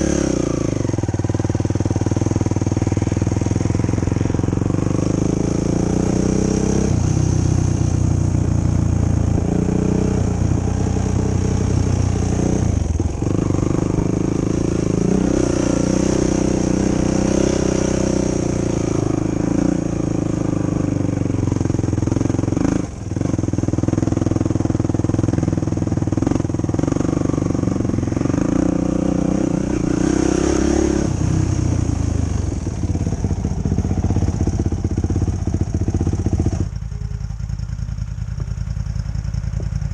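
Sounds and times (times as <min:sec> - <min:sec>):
quad engine revving: 0:00.0 - 0:36.8.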